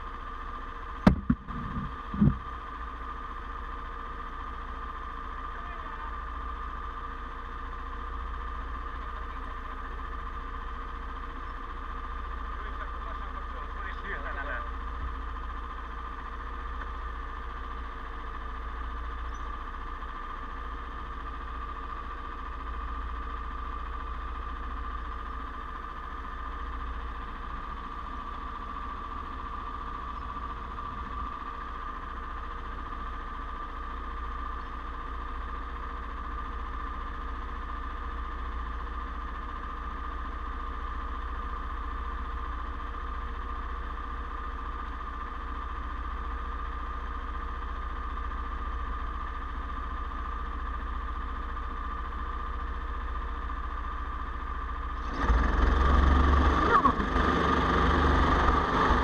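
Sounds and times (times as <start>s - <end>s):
go-kart engines idling: 0.0s - 59.0s.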